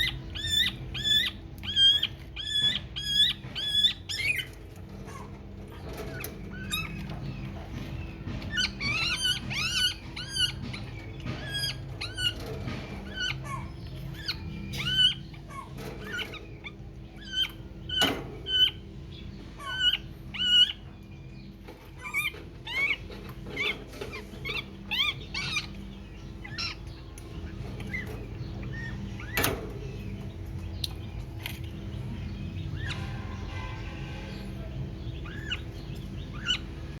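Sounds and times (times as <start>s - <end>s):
baby birds cheeping: 0.0s - 37.0s
low steady hum: 0.0s - 37.0s.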